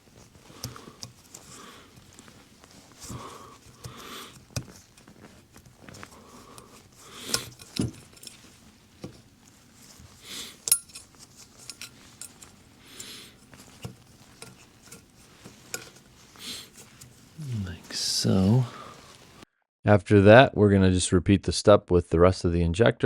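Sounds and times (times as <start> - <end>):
small metallic clicks and clinks: 0.0 - 19.4.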